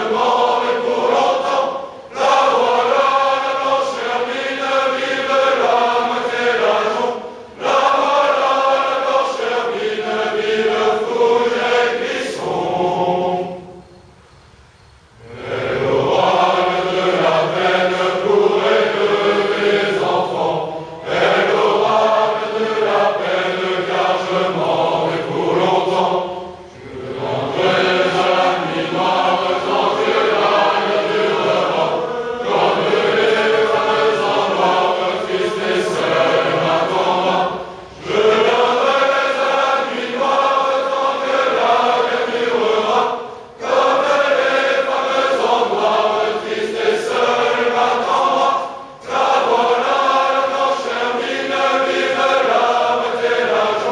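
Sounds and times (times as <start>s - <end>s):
male choir singing: 0.0s - 14.0s, 15.2s - 53.9s.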